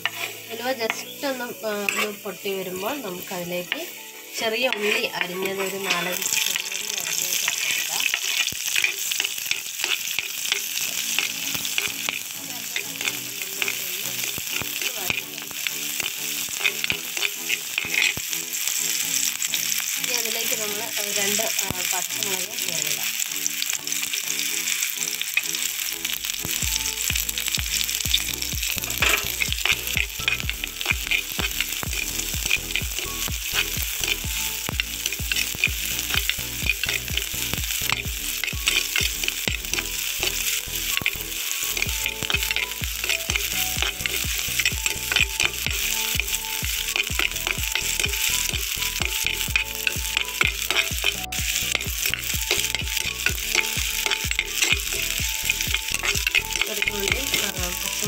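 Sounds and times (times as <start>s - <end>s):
metal spoon scraping a pot: 0.0s - 3.2s, 4.6s - 18.7s, 27.6s - 58.0s
food sizzling in hot oil: 0.0s - 58.0s.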